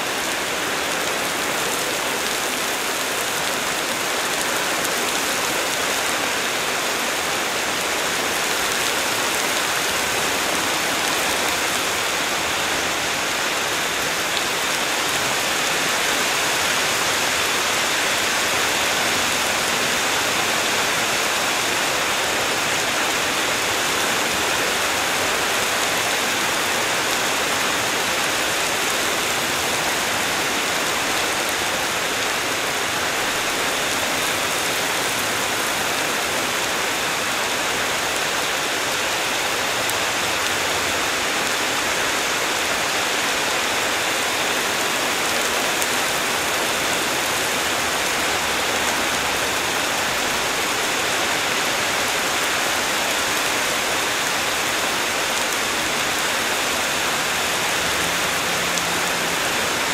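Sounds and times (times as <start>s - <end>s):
heavy rain on trees: 0.0s - 59.9s.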